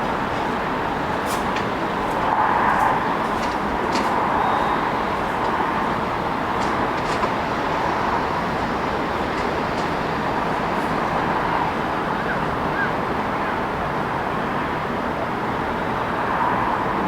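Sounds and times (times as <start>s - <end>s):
street traffic rushing: 0.0s - 17.0s.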